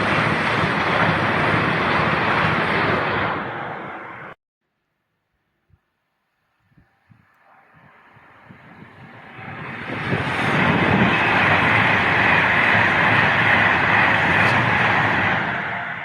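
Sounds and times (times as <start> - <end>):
train passing on rails: 0.0 - 4.4, 7.1 - 16.0.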